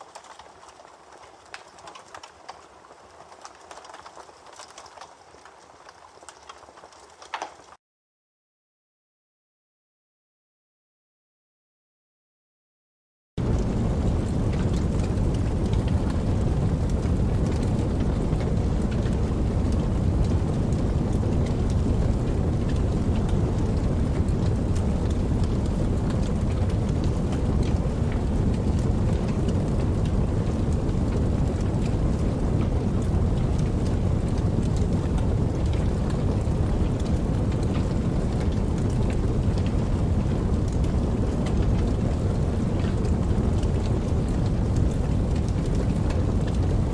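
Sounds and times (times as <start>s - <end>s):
faint raindrop ticks: 0.0s - 7.8s, 13.4s - 46.9s
steady rain falling: 0.0s - 7.8s, 13.4s - 46.9s.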